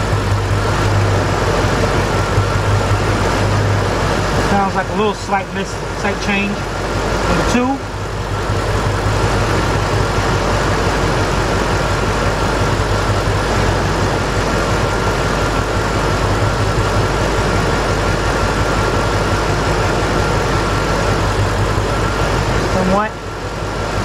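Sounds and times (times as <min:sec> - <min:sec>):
car engine idling: 0:00.0 - 0:24.0
faint steady whine: 0:00.0 - 0:24.0.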